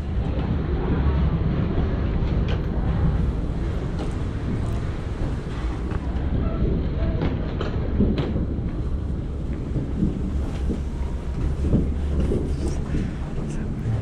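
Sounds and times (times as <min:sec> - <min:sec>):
wheeled suitcases rolling: 0:00.0 - 0:14.0.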